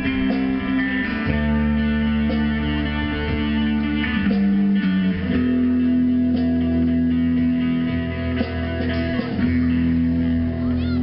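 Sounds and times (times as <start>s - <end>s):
electric guitars and bass: 0.0s - 11.0s.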